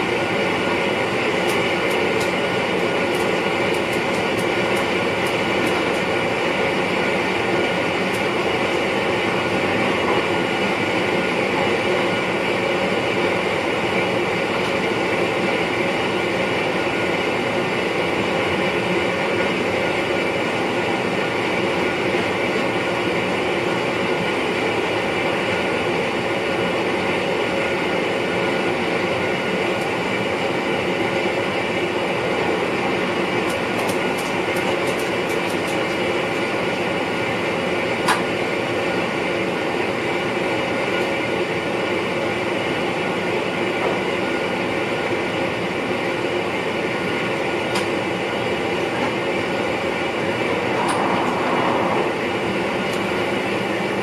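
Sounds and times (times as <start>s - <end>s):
electric train running noise: 0.0s - 54.0s.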